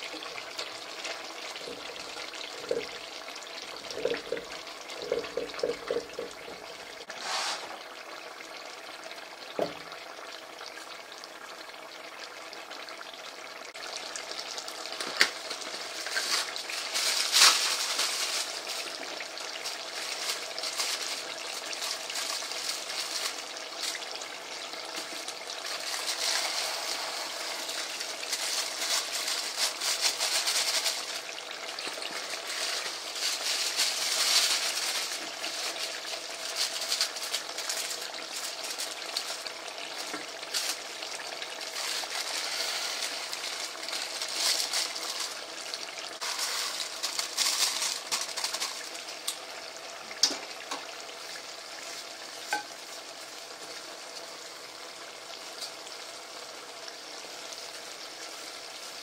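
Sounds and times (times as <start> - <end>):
chicken sizzling in hot oil: 0.0 - 59.0
oil crackling and popping: 0.0 - 59.0.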